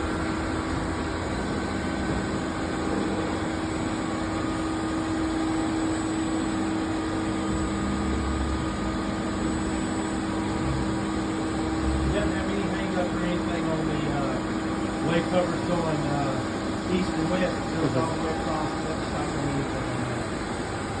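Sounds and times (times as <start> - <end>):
boring mill hum and rumble: 0.0 - 21.0
lower hum: 0.0 - 21.0.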